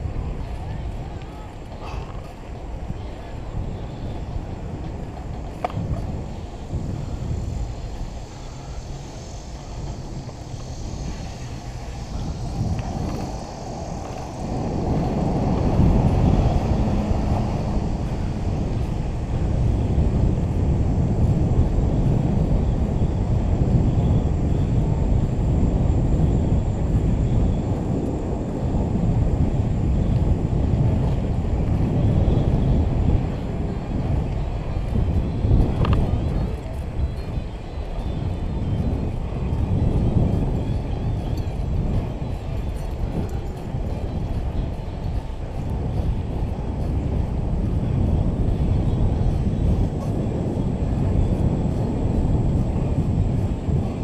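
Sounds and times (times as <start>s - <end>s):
rolling road noise: 0.0s - 54.0s
wind buffeting microphone: 0.0s - 54.0s.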